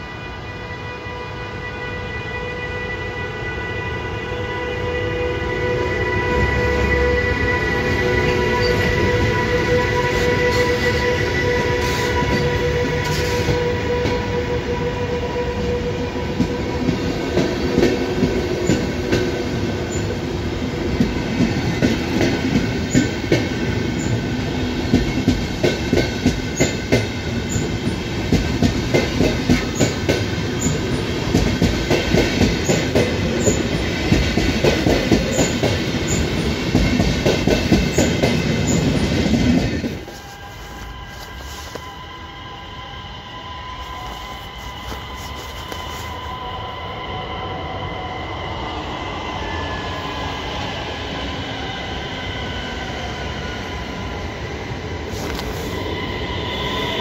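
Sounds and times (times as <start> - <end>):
electric locomotive whine: 0.0 - 57.0.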